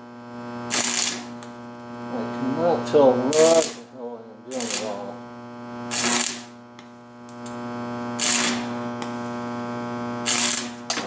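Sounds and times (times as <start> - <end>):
stick welder humming: 0.0 - 11.0
welding arc crackle: 0.0 - 11.0.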